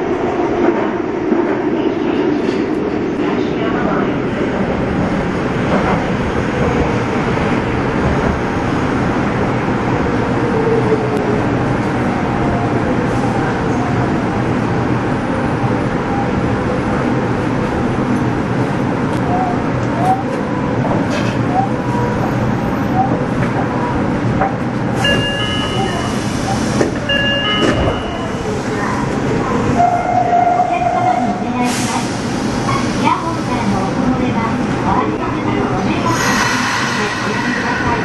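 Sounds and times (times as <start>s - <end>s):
subway train rumbling: 0.0s - 38.0s.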